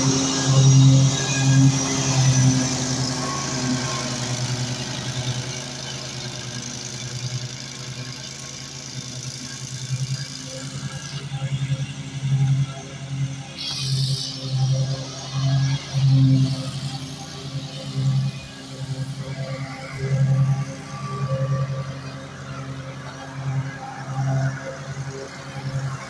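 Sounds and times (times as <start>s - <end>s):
riding mower engine cutting grass: 0.0s - 26.0s.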